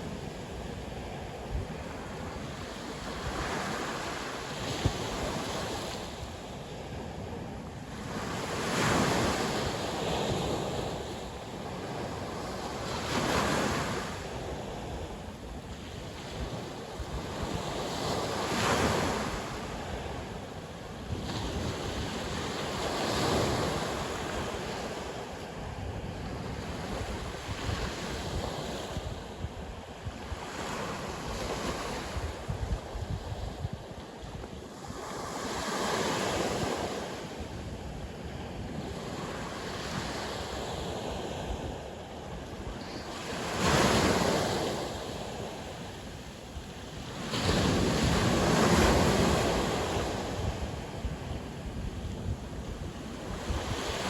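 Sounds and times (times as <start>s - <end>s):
sea waves breaking on shore: 0.0s - 54.0s
wind buffeting microphone: 0.0s - 54.0s.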